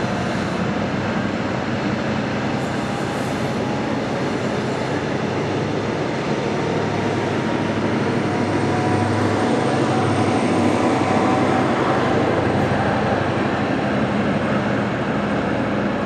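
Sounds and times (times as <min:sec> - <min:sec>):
diesel train engine running: 0:00.0 - 0:16.0
train coaches rumbling over rails: 0:00.0 - 0:16.0.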